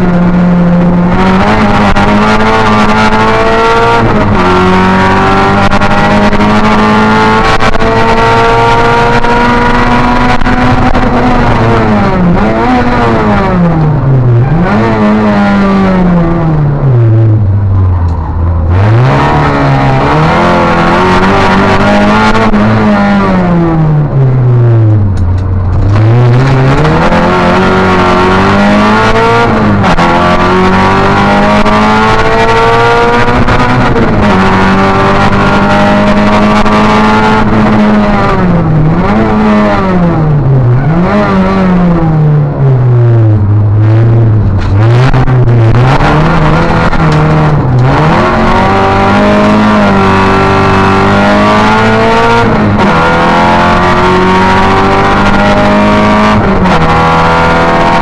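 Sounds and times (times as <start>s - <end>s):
rally car engine accelerating: 0.0s - 58.0s.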